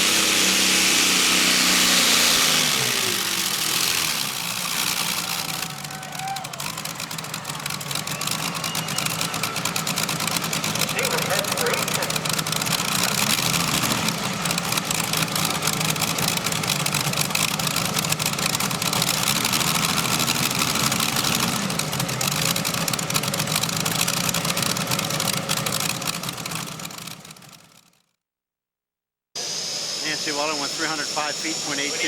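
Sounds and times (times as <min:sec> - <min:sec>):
tractor engines running hard: 0:00.0 - 0:28.0, 0:29.4 - 0:32.0.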